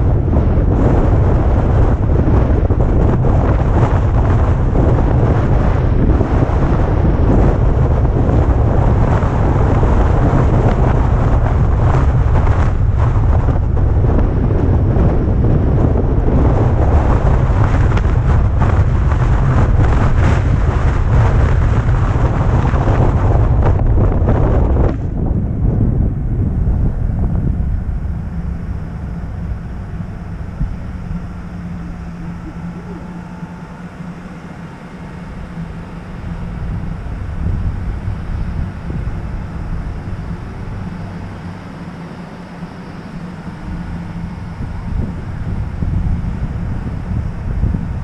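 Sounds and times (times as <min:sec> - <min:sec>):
wind noise on microphone: 0:00.0 - 0:48.0.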